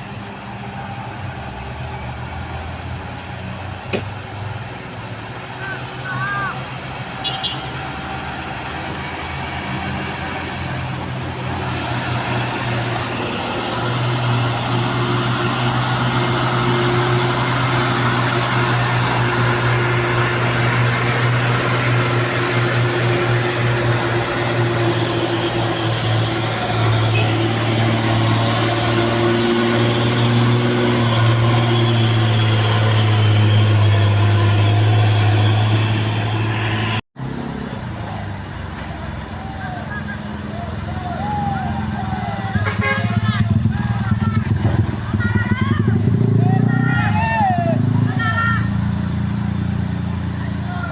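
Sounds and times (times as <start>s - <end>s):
heavy truck engine running: 0.0s - 50.9s.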